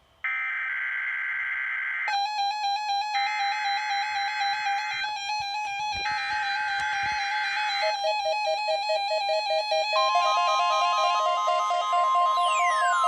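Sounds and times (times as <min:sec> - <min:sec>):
keyboard music: 0:00.3 - 0:13.0.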